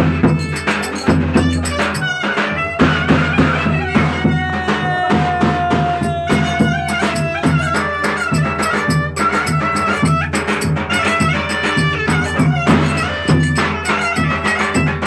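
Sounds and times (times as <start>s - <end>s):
folk dance melody instrument: 0.0s - 15.0s
steady drum beat: 0.0s - 15.0s.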